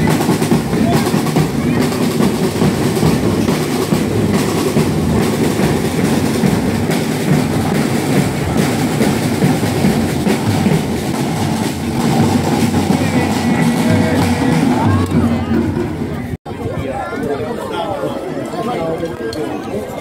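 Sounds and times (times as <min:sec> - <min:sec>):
snare and bass drums rattling: 0:00.0 - 0:16.4.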